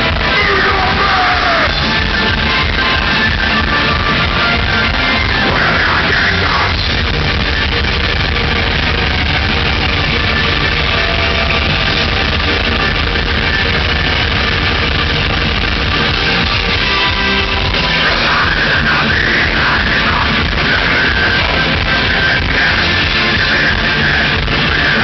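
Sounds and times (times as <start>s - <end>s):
distorted guitars: 0.0s - 25.0s
fast dense drumming: 0.0s - 25.0s
keyboards: 0.0s - 25.0s
metal band playing live: 0.0s - 25.0s.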